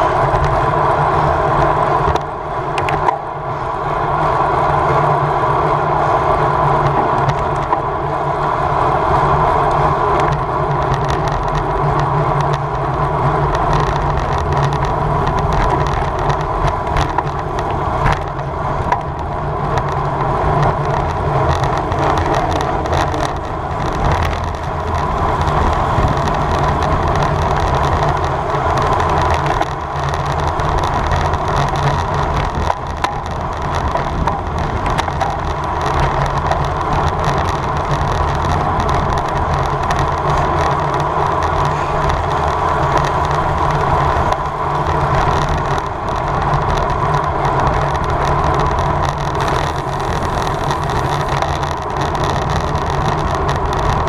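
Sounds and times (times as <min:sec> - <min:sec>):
wind and road noise from bike: 0:00.0 - 0:54.0.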